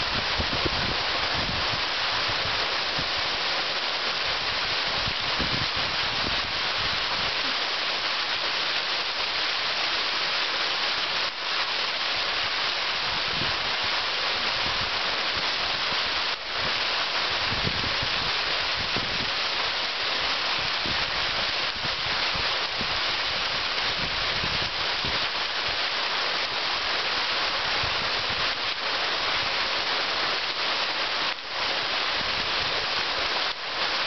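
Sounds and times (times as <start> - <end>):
small waterfall splashing: 0.0 - 34.0.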